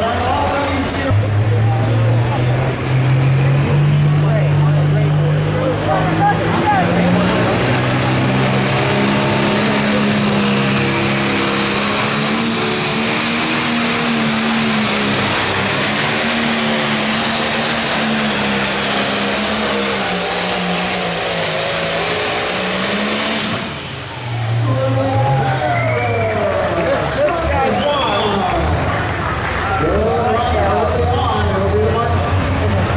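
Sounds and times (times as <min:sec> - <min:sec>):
tractor diesel engine full throttle: 0:00.0 - 0:32.9.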